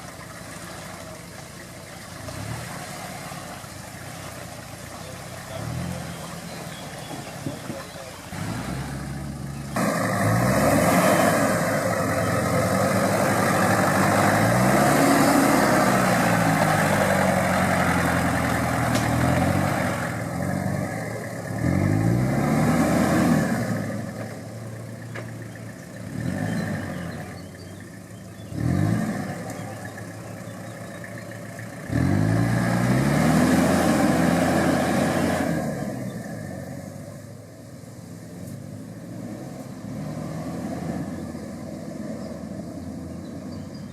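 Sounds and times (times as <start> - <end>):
engine revving: 2.0 - 37.2, 38.8 - 43.9.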